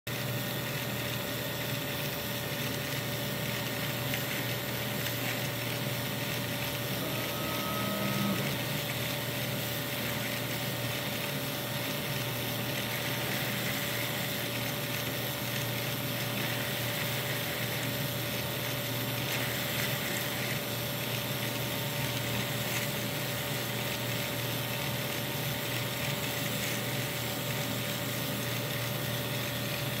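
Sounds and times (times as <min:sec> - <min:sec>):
small motor driving plastic gears: 0:00.2 - 0:30.0.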